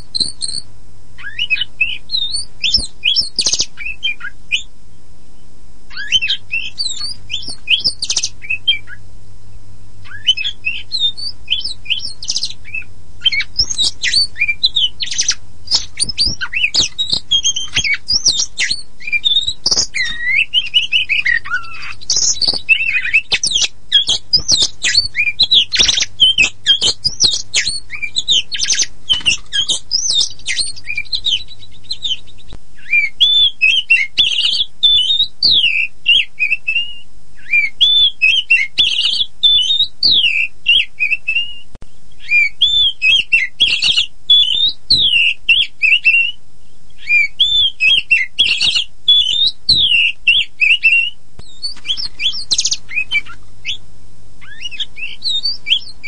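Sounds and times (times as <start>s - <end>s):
bird singing whistles and trills: 0.0s - 9.1s, 10.0s - 53.8s, 54.4s - 56.0s.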